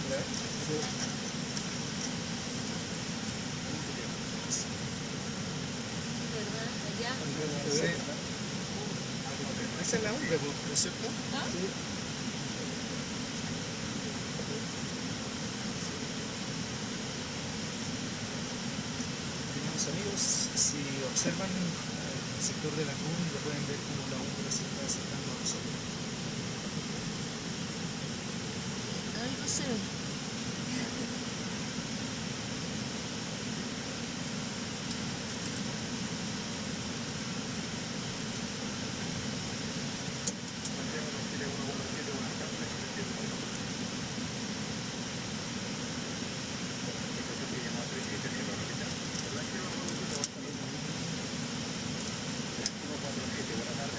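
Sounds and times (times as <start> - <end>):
airliner cockpit air rush: 0.0 - 53.9
ventilation hiss: 0.0 - 53.9.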